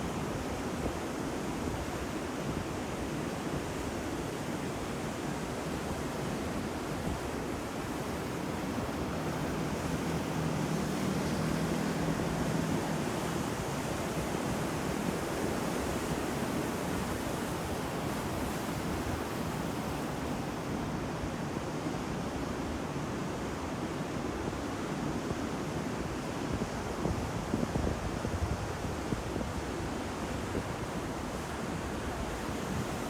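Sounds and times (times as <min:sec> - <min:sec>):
ocean waves breaking on shore: 0:00.0 - 0:33.0.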